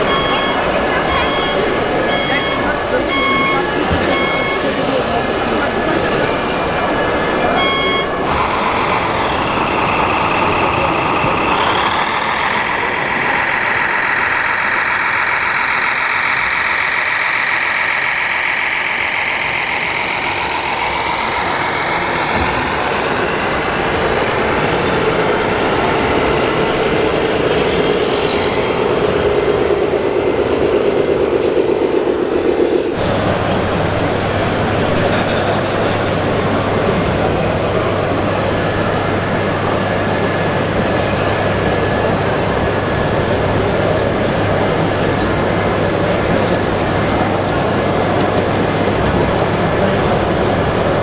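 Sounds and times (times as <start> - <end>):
model trucks mechanical hum: 0.0 - 51.0.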